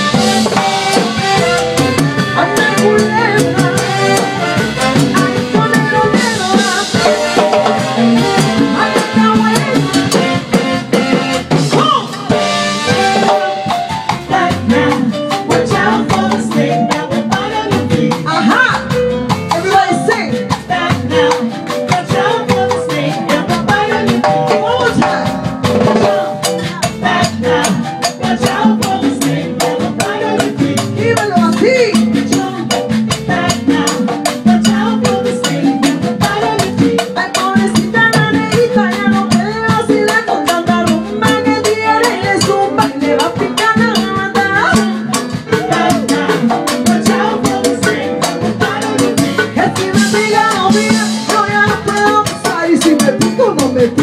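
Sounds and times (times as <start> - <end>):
live band playing latin dance music: 0.0 - 54.0
shaker percussion: 0.0 - 54.0.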